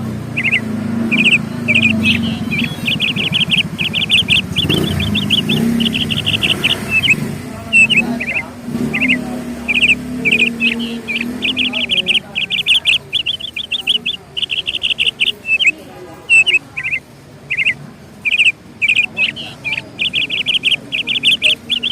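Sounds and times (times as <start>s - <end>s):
small birds chirping: 0.0s - 21.9s
steady low hum: 0.0s - 21.9s.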